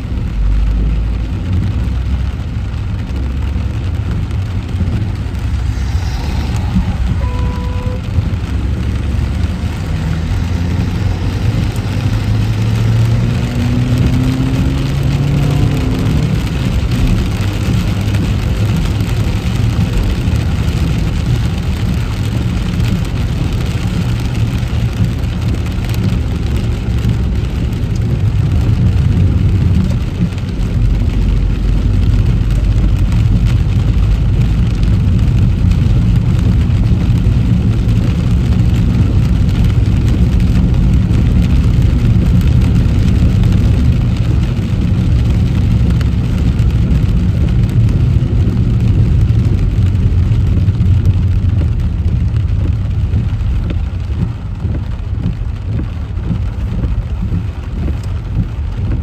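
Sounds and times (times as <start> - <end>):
car engine humming: 0.0 - 59.0
rain and tyres on wet road: 0.0 - 59.0.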